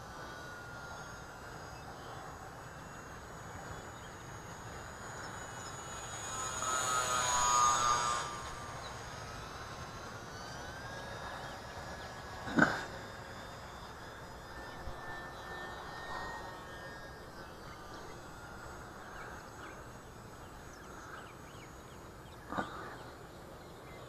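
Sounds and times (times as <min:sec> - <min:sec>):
model airplane motor whining: 0:00.0 - 0:24.0.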